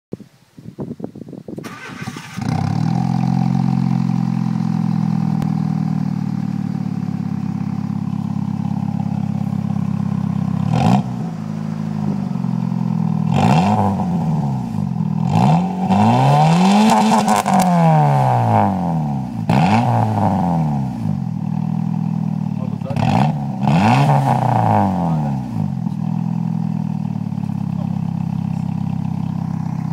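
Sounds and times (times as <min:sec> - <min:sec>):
car engine idling and revving: 0:01.6 - 0:29.9.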